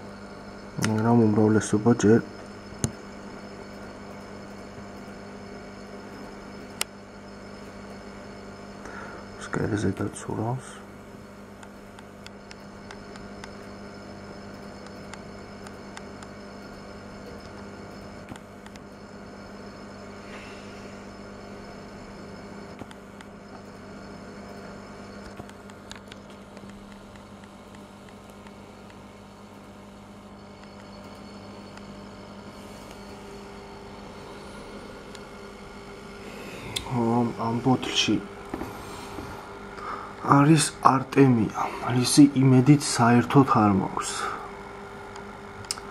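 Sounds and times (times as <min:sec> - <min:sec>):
aquarium equipment humming: 0:00.0 - 0:45.9.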